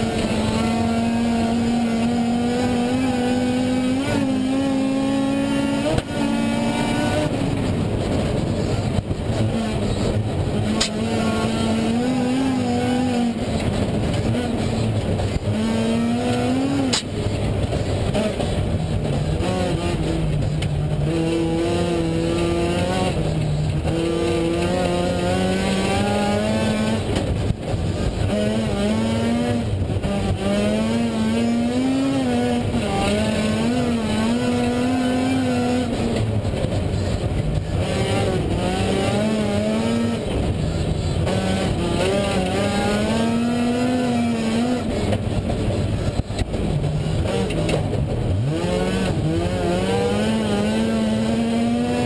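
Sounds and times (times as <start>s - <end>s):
rally car engine revving: 0.0s - 52.0s.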